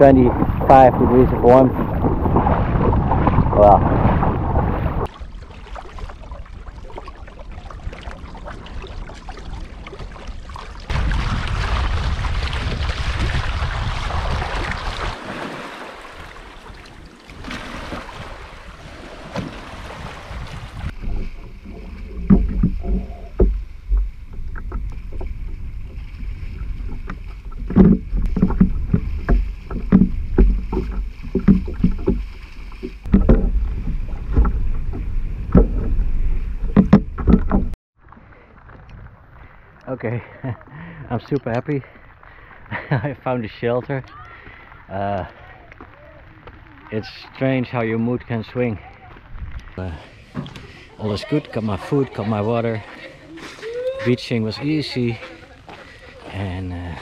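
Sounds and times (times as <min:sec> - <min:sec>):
water rushing past a canoe: 0:00.0 - 0:39.2, 0:48.6 - 0:57.0
person wading through shallow water: 0:00.0 - 0:41.1, 0:48.8 - 0:57.0
wind: 0:00.0 - 0:57.0.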